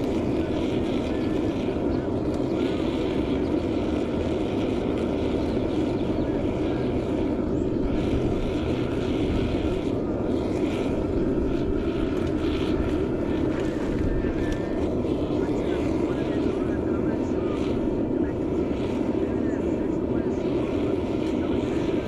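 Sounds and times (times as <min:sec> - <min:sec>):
gas burner rushing: 0:00.0 - 0:22.0.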